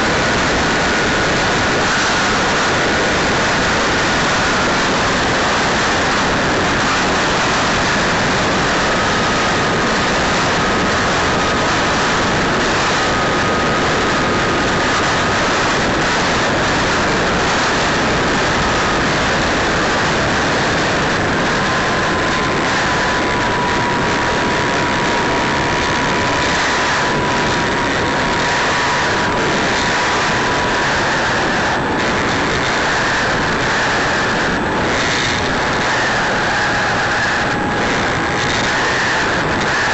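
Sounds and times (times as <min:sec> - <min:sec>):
electric motor whine: 0:00.0 - 0:39.9
wind and propeller rush: 0:00.0 - 0:39.9.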